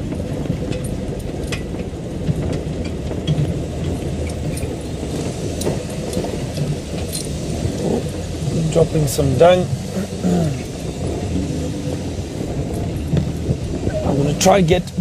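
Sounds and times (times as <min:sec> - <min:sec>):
vehicle engine low rumble: 0:00.0 - 0:15.0
vehicle rattles and clicks: 0:00.0 - 0:15.0.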